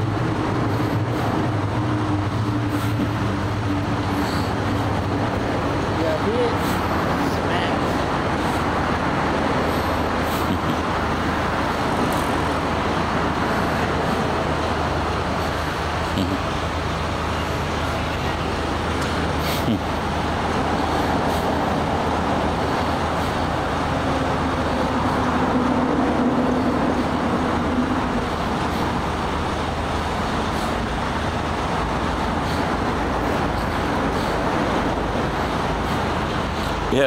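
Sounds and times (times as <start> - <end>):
constant low hum: 0.0 - 37.0
road traffic: 0.0 - 37.0
vehicle passing: 0.0 - 37.0.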